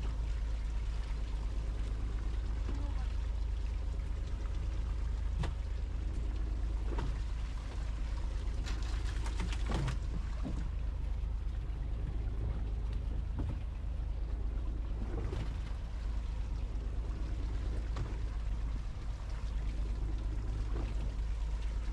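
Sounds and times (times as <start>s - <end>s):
boat engine rumbling: 0.0s - 21.9s.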